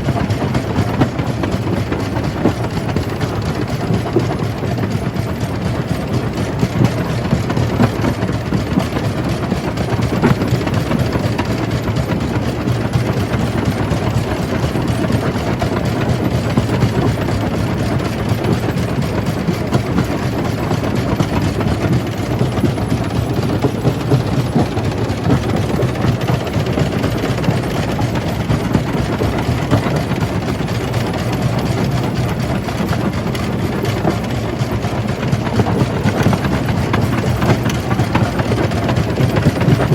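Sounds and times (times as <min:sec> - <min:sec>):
jaw crusher rattling grind: 0:00.0 - 0:39.9.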